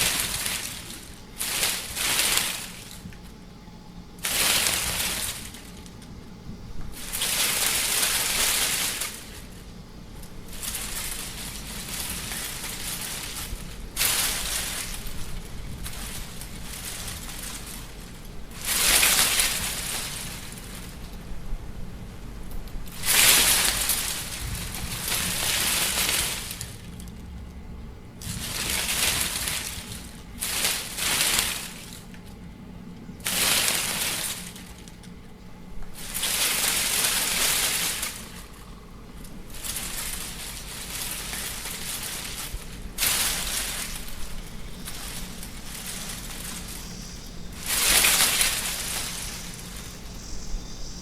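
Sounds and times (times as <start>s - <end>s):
steady low rumble: 0.0s - 51.0s
wind gusts hissing: 0.0s - 51.0s.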